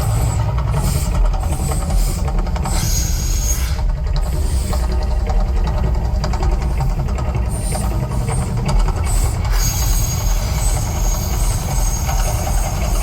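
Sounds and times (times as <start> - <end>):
deep steady rumbling: 0.0 - 13.0.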